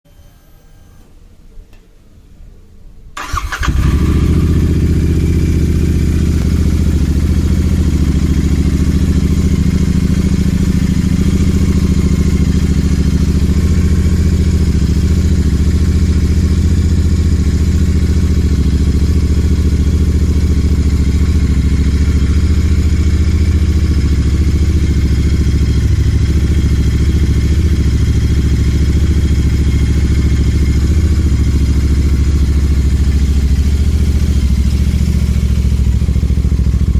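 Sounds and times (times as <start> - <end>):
motorcycle engine starting and idling: 3.1 - 36.9.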